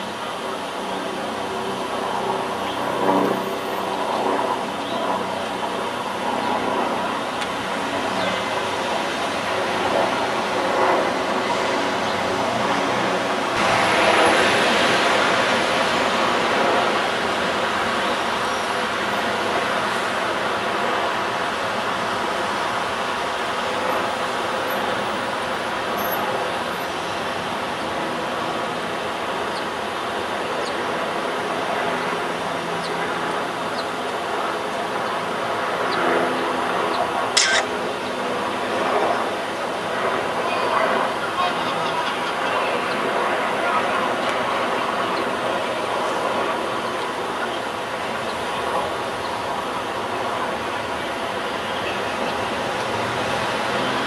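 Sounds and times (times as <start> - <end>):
city traffic noise: 0.0 - 54.0.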